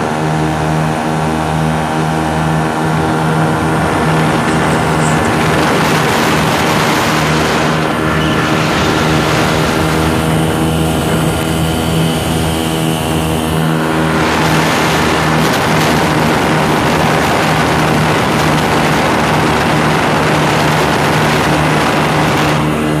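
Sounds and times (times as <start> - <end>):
aircraft engine and propeller: 0.0 - 23.0
rushing noise: 0.8 - 23.0.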